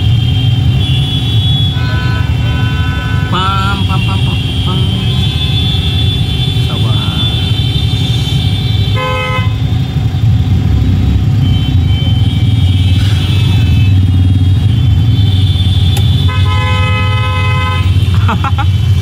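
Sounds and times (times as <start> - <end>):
car horns honking: 0.0 - 10.2, 11.1 - 19.0
car and scooter engines idling: 0.0 - 19.0.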